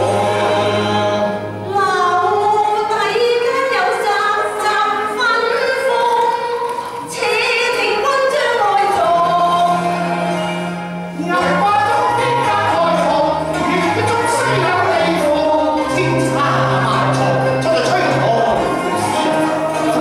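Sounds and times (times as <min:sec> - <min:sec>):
mixed choir singing opera song: 0:00.0 - 0:03.5, 0:07.0 - 0:20.0.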